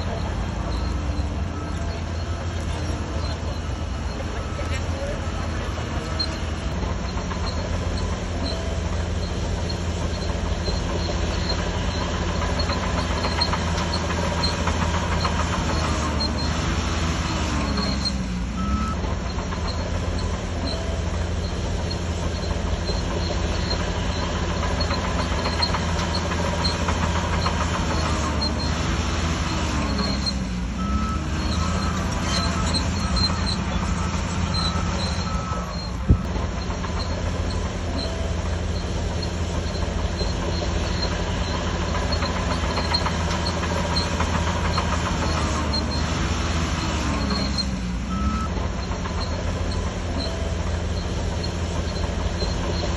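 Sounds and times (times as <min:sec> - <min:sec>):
bulldozer diesel engine under load: 0:00.0 - 0:52.9.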